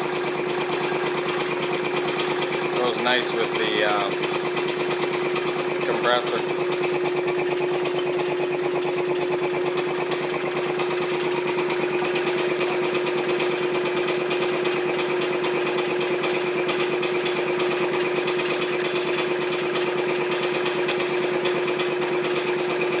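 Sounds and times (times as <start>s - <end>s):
air compressor chugging: 0.0s - 23.0s.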